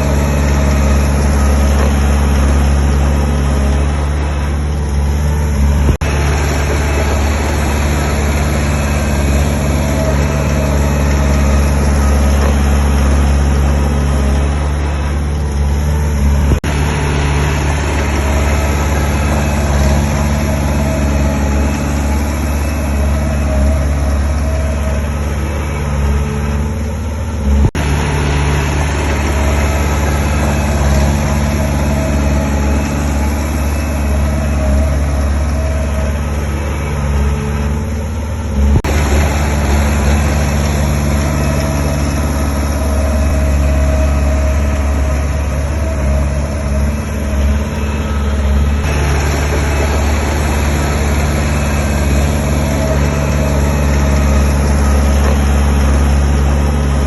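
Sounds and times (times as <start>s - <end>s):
diesel machinery engine rumble: 0.0s - 57.0s.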